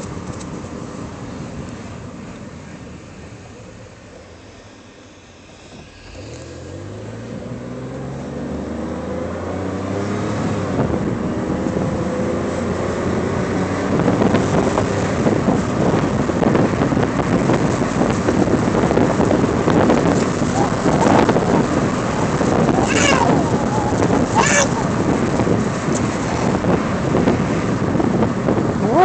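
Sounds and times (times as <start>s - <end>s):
car engine accelerating: 0.0s - 29.0s
wind rushing through car windows: 0.0s - 29.0s.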